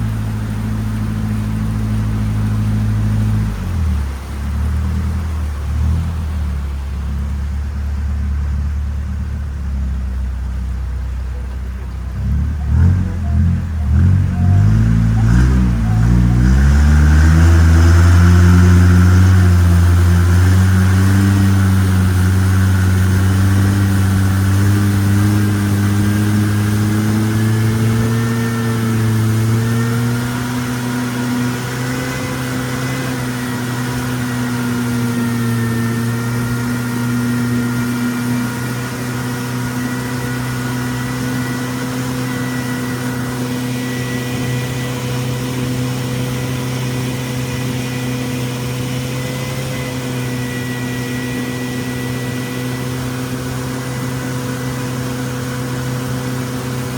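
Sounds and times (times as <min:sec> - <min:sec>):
boat engine: 0:00.0 - 0:56.9.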